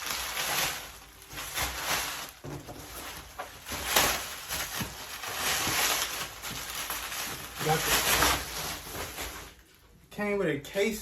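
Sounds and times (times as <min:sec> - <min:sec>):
packaging rustling and scraping: 0:00.0 - 0:09.9.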